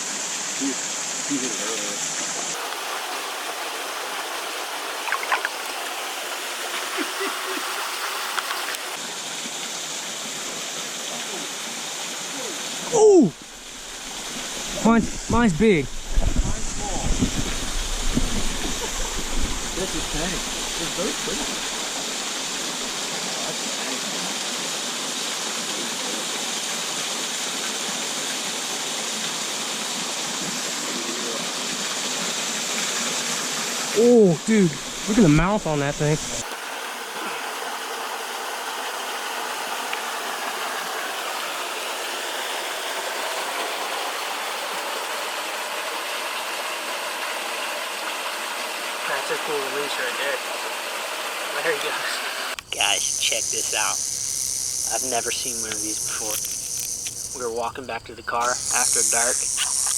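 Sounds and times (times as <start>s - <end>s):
creek water rushing: 0.0s - 53.8s.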